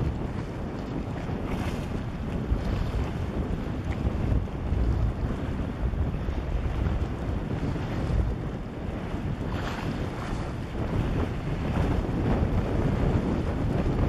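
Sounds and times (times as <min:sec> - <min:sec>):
choppy water: 0:00.0 - 0:14.0
wind buffeting microphone: 0:00.0 - 0:14.0.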